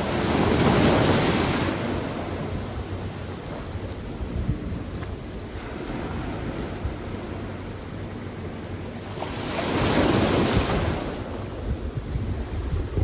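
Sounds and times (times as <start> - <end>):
sea waves washing onto beach: 0.0 - 13.0
wind buffeting microphone: 0.0 - 13.0.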